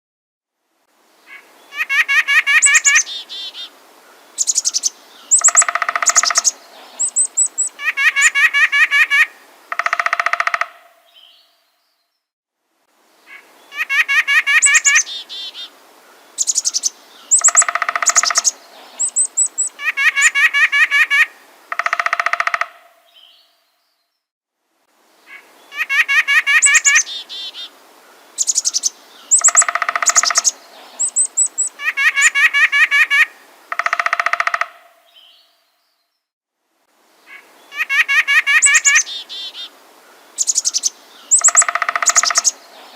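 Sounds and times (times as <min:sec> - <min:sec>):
small birds chirping: 0:01.2 - 0:12.3, 0:13.2 - 0:24.3, 0:25.2 - 0:36.3, 0:37.2 - 0:42.9.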